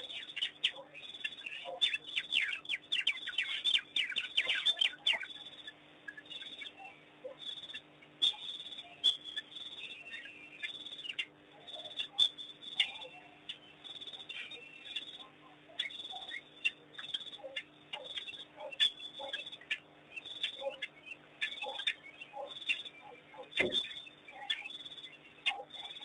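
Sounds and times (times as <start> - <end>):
high bird-like chirping: 0.0 - 26.0.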